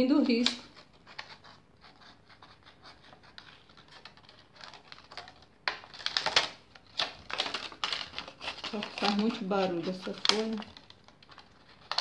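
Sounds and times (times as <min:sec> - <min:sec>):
scissors cutting plastic: 0:00.3 - 0:12.0
plastic sheet crackling: 0:02.2 - 0:12.0.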